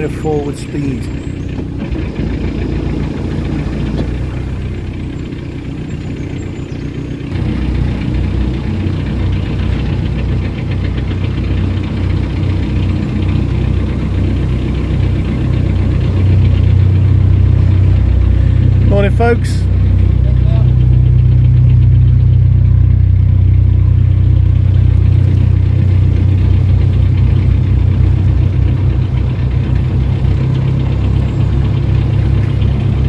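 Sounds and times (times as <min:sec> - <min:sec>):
boat engine throbbing: 0:00.0 - 0:33.0.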